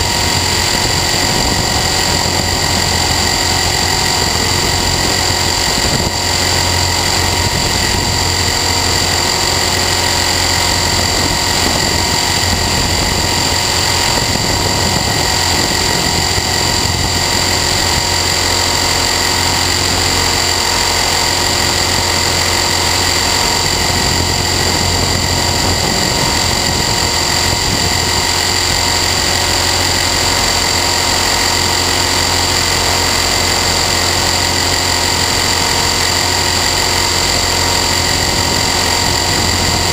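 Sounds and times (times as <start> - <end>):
motor and gears whining: 0.0 - 39.9
rotor drone: 0.0 - 39.9.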